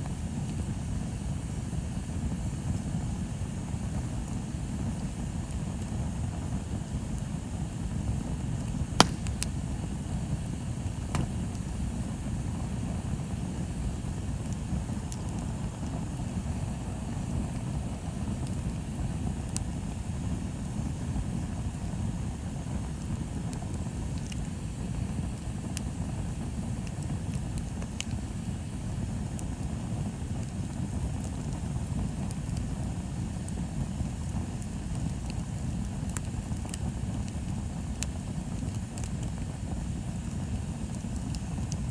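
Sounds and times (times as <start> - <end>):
bonfire burning: 0.0 - 41.9
fire crackles and pops: 0.0 - 41.9.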